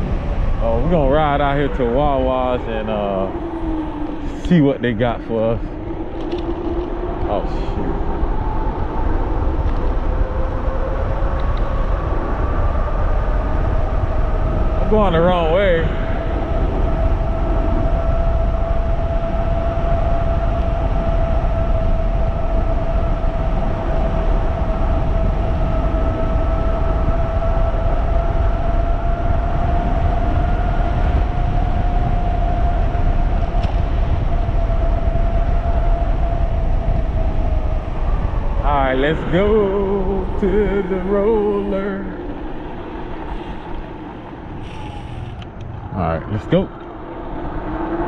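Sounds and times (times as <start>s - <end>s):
wind rushing over microphone: 0.0s - 48.0s
electric bike motor whining: 5.6s - 45.8s.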